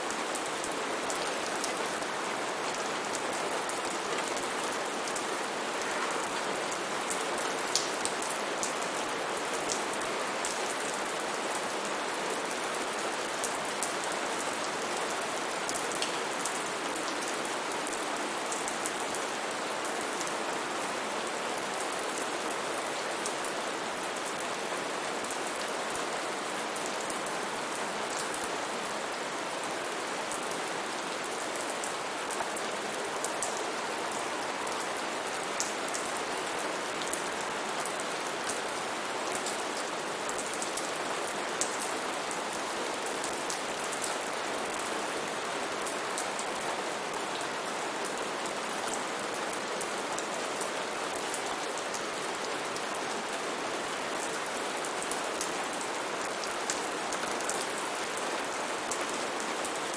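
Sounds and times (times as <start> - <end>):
steady rain on foliage: 0.0 - 59.9.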